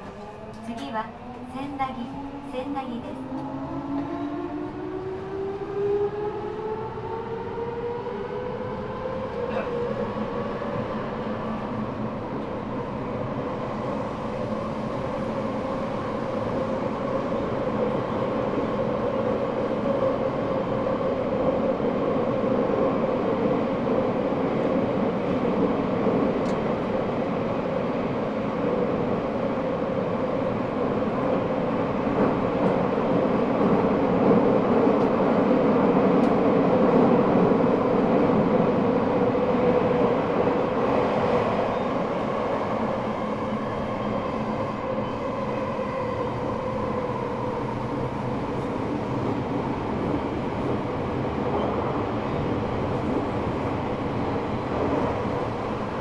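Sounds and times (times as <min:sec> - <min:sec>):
train motor and wheel noise: 0:00.0 - 0:56.0.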